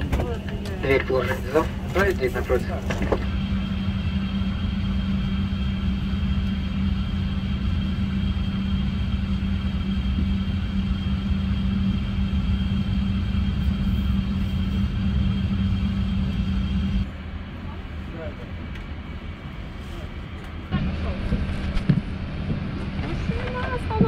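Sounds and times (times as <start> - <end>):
airplane cabin hum and rumble: 0.0 - 24.0
high whine: 0.0 - 24.0.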